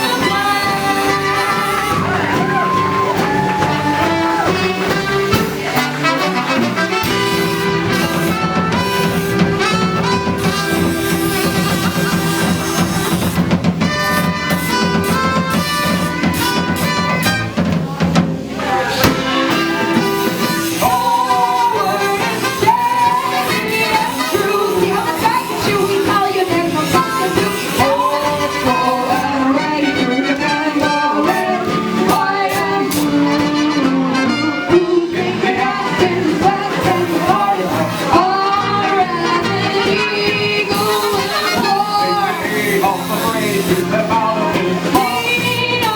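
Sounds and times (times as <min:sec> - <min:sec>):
person singing: 0:00.0 - 0:09.8, 0:18.7 - 0:45.9
upbeat music with brass: 0:00.0 - 0:17.8, 0:18.4 - 0:45.9
drum kit steady beat: 0:00.0 - 0:45.9
guitar: 0:00.0 - 0:45.9
held instrument notes: 0:00.0 - 0:45.9.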